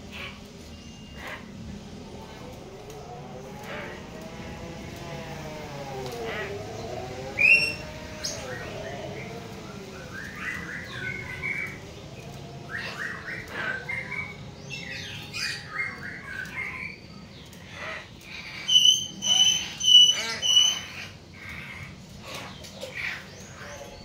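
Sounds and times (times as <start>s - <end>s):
mynas calling and chirping: 0.0s - 24.0s.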